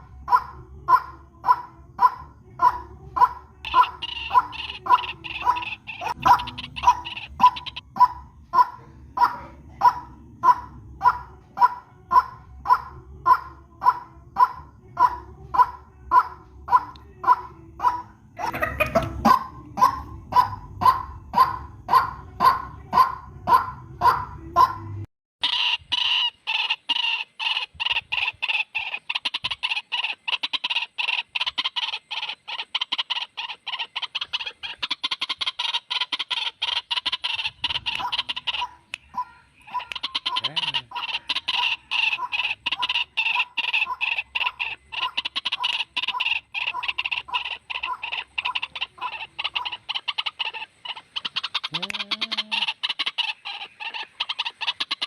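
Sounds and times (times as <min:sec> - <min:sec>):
waterhen calling: 0:00.0 - 0:55.0.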